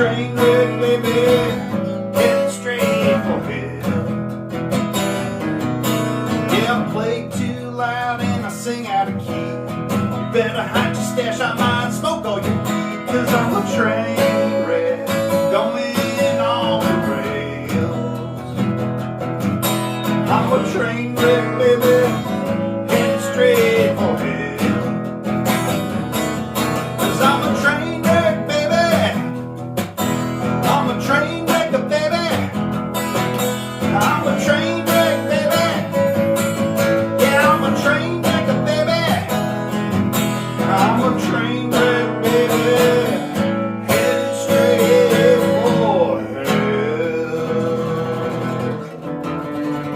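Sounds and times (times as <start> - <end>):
strummed acoustic guitar: 0.0 - 49.9.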